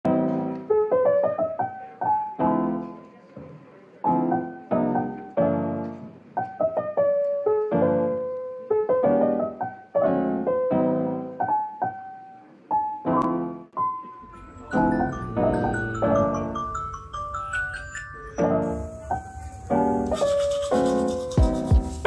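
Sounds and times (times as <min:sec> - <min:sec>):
piano melody over chords: 0:04.1 - 0:22.0.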